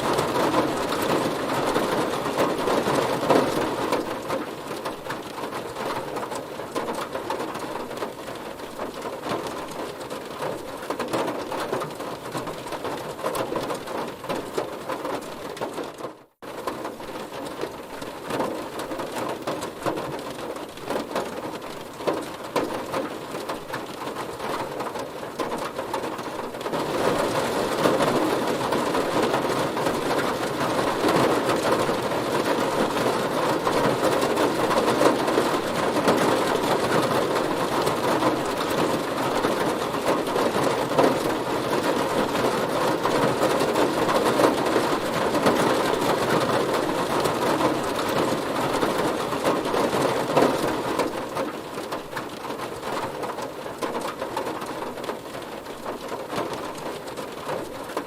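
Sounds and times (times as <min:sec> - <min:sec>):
heavy rain on car body: 0:00.0 - 0:58.0.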